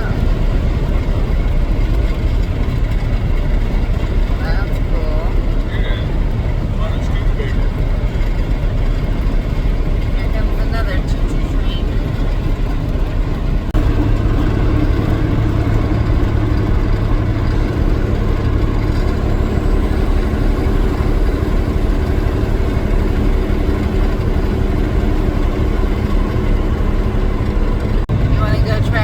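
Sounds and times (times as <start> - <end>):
steady low hum: 0.0 - 29.0
vehicle engine and road noise: 0.0 - 29.0.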